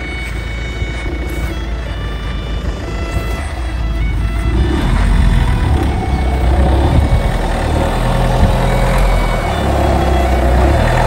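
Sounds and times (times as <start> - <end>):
van engine at low speed: 0.0 - 11.0.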